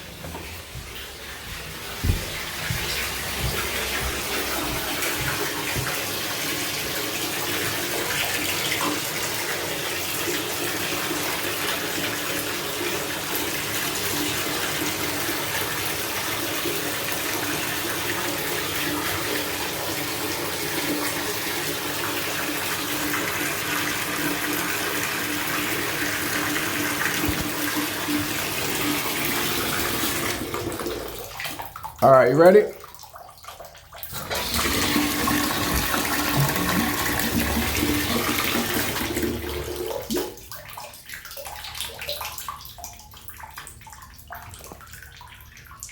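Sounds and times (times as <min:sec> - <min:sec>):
water running into a bathtub: 0:00.0 - 0:45.9.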